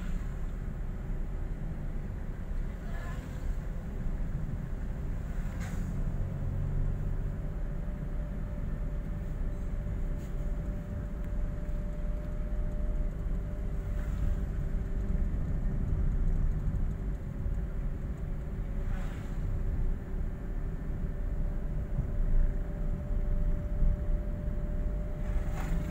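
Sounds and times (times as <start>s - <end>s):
car engine and tyre rumble: 0.0s - 25.9s.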